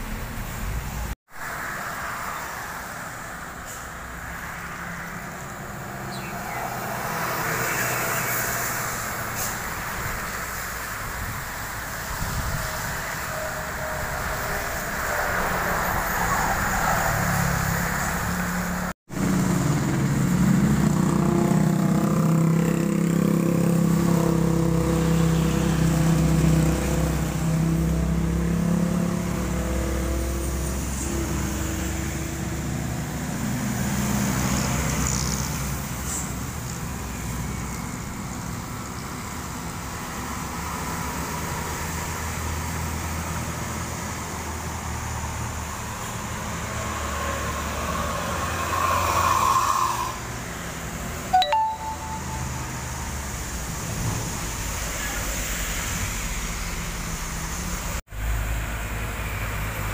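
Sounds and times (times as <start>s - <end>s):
tyres hissing on wet road: 0.0s - 21.0s, 24.8s - 51.3s, 53.1s - 59.9s.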